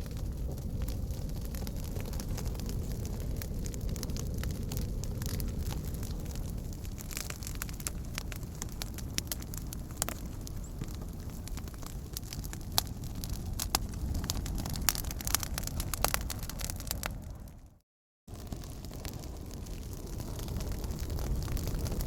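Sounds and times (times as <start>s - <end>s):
low rumble: 0.0s - 22.0s
wood fire crackling and popping: 0.0s - 22.0s.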